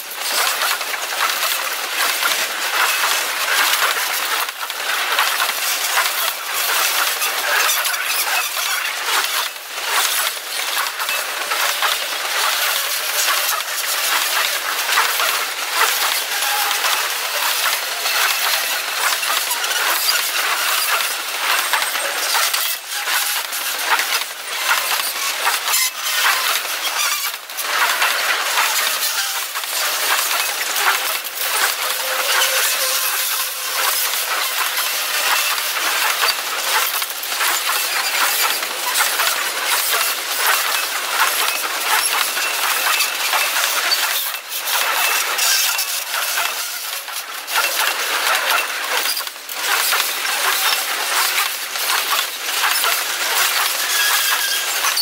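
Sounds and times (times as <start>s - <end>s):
train wheels rushing on rails: 0.1s - 55.0s.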